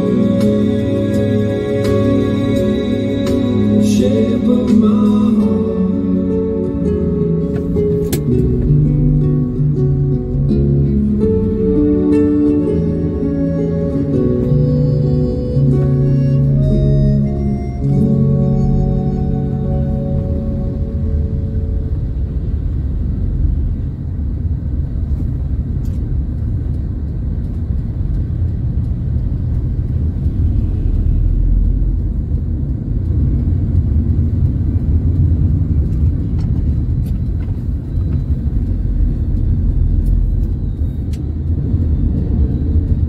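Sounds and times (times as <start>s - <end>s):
car cabin road rumble: 0.0s - 43.0s.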